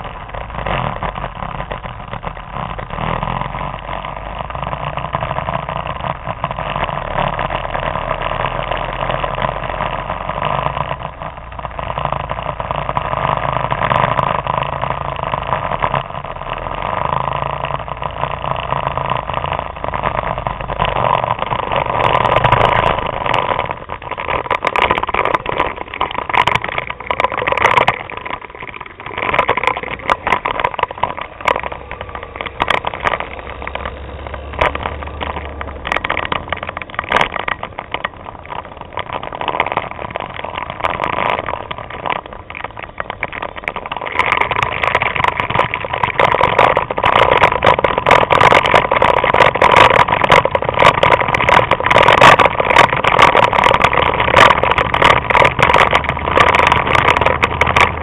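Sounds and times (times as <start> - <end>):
scooter engines running: 0.0 - 58.0.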